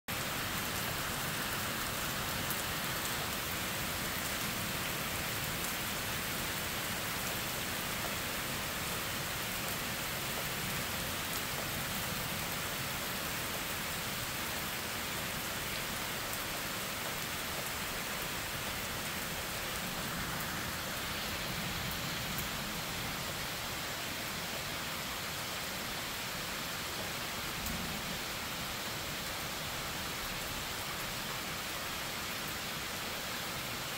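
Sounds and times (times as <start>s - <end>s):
rain hissing: 0.1s - 33.8s.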